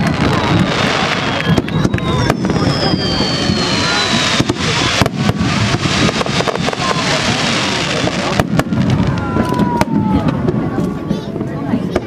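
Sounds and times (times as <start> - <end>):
fireworks whistles falling in pitch: 0.0 - 10.3
crowd voices: 0.0 - 12.0
fireworks bangs and crackles: 0.0 - 12.0.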